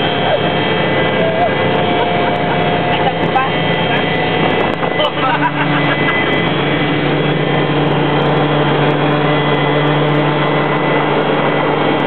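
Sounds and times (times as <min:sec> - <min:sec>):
helicopter turbine and rotor drone: 0:00.0 - 0:12.0.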